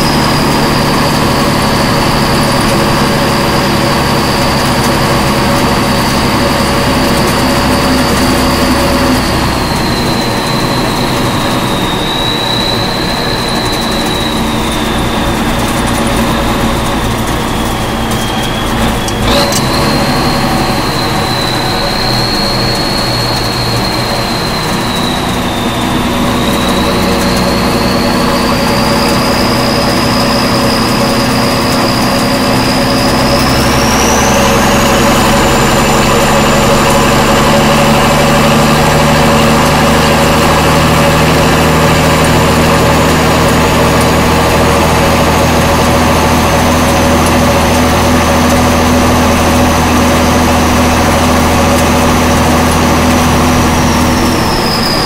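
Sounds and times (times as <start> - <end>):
diesel truck engine drone: 0.0 - 55.0
high engine whine: 0.0 - 55.0
road noise: 0.0 - 55.0.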